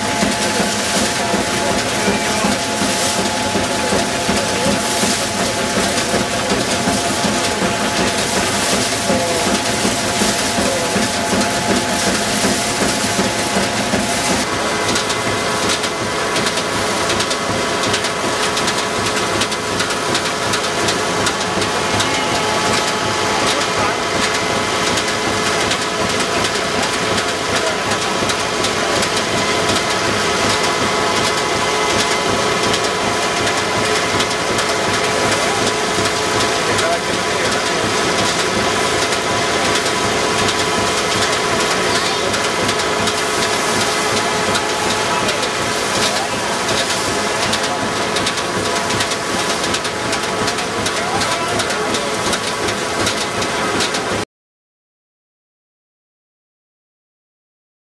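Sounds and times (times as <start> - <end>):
steady humming tones: 0.0 - 53.8
threshing machine clatter: 0.0 - 54.2.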